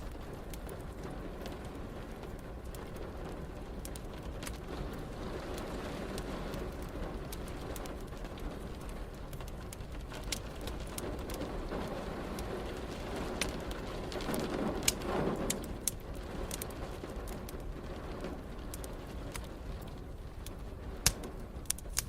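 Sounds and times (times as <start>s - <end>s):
rain hiss: 0.0s - 22.0s
wood fire crackling and popping: 0.0s - 22.0s.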